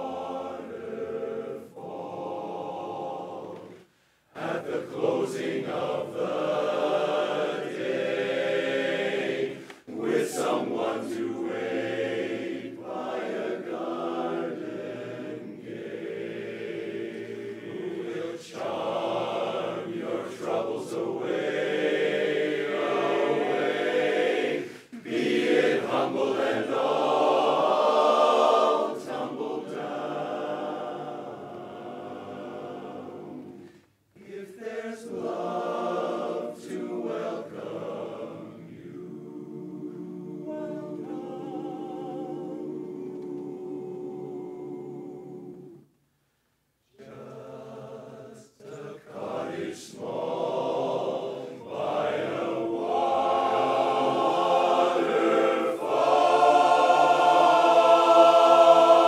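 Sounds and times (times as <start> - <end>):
men's chorus singing a cappella: 0.0 - 45.9, 46.9 - 59.0.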